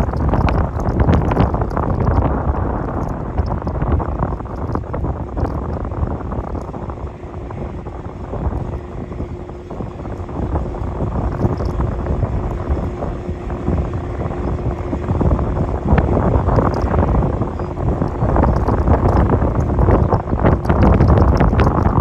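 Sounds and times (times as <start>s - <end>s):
jet engines rumbling: 0.0s - 22.0s
steady low hum: 0.0s - 22.0s
wind buffeting microphone: 0.0s - 22.0s.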